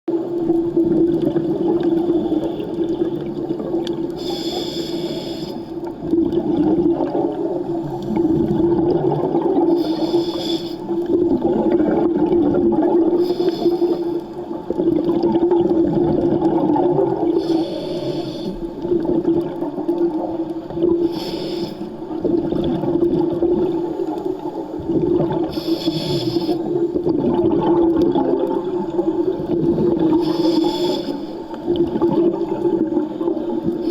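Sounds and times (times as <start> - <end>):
exhaled bubbles hissing underwater: 0.1 - 33.9.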